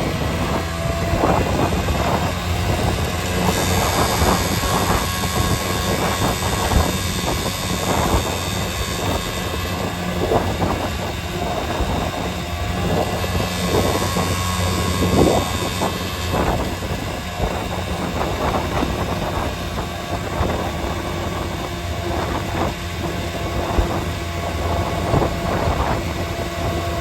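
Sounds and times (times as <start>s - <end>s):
road noise: 0.0s - 27.0s
vehicle engine running: 0.0s - 27.0s.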